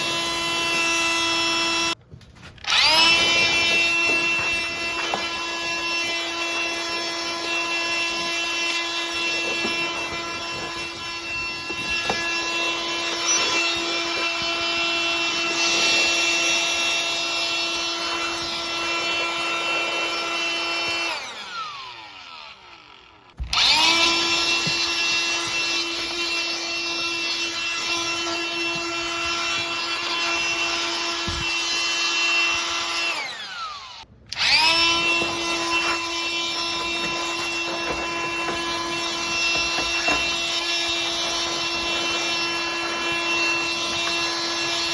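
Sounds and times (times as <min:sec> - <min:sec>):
electric blower whining: 0:00.0 - 0:44.9.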